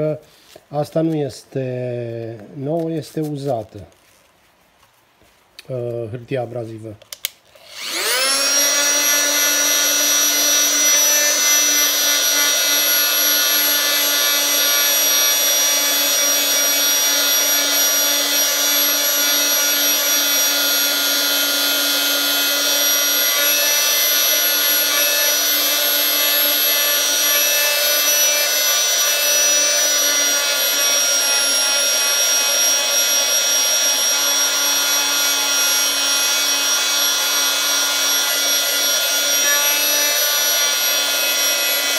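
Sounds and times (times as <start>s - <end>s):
oscillating multi-tool whine: 7.6s - 41.9s.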